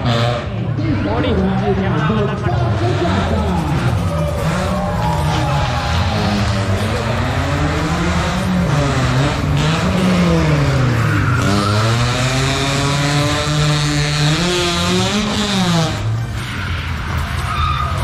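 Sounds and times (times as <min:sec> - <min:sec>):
engine revving hard: 0:02.6 - 0:17.2
tyres squealing: 0:03.3 - 0:18.0.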